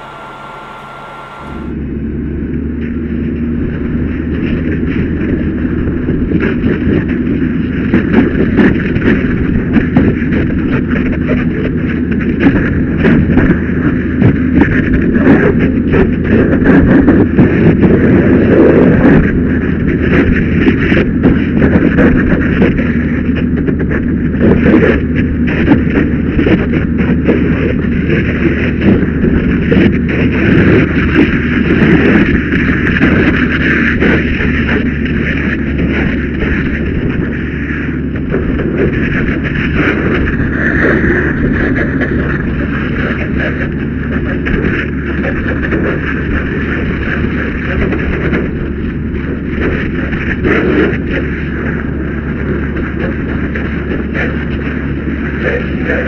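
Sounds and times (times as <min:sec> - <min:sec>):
faint steady hum: 0:00.0 - 0:56.0
low rumble: 0:00.0 - 0:56.0.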